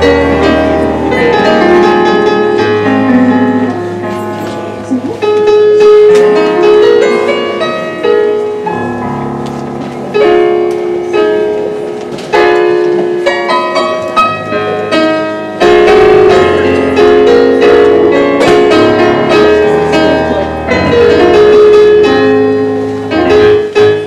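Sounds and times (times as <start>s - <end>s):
piano playing slow chords: 0.0s - 24.0s.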